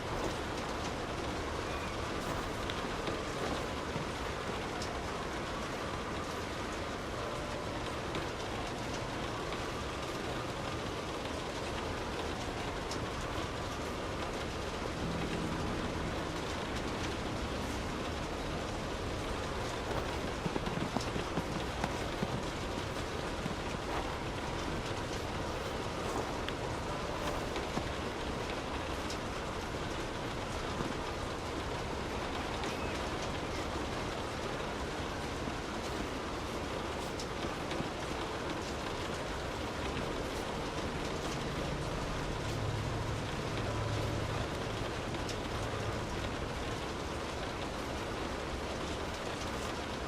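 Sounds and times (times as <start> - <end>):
rain falling on a street: 0.0 - 50.0.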